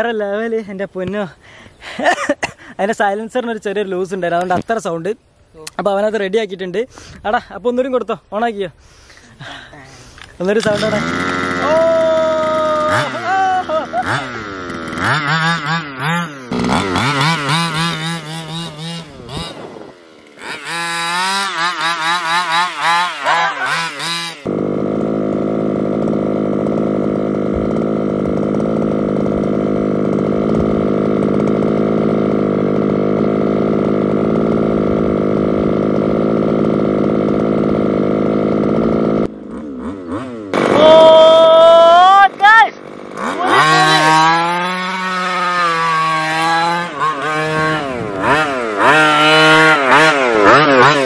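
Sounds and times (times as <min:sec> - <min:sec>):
small engine idling: 0:10.0 - 0:51.0
small two-stroke engine revving: 0:10.0 - 0:51.0.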